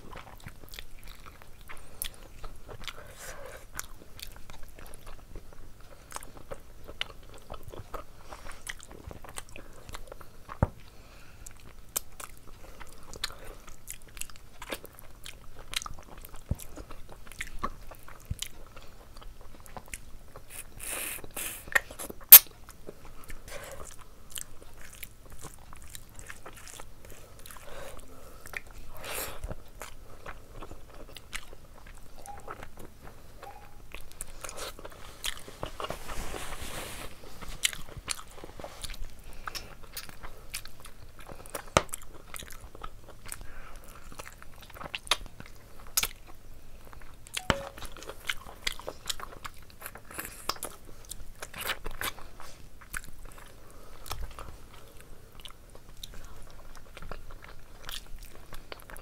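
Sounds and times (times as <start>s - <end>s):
person chewing and smacking: 0.0s - 35.9s, 37.3s - 59.0s.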